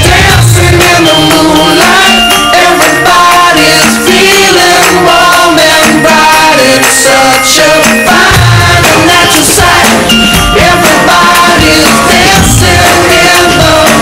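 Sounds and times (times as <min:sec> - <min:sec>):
loud music with singing: 0:00.0 - 0:14.0.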